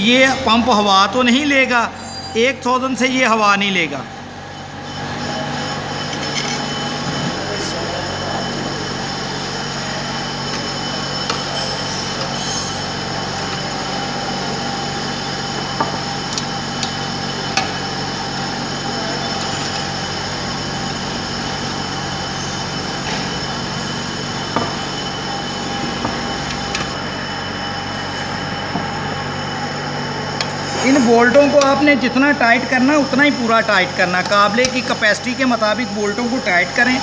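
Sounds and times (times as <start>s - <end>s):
workshop machine hum: 0.0s - 37.0s.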